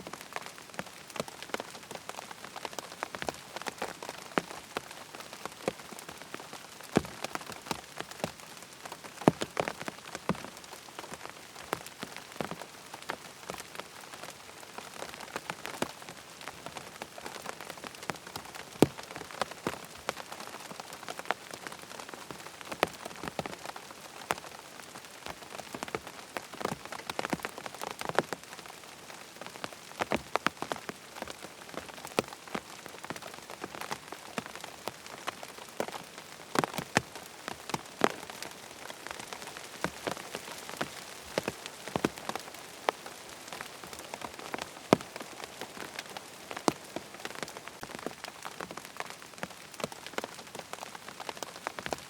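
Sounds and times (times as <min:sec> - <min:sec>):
rain pattering on a tent: 0:00.0 - 0:52.0.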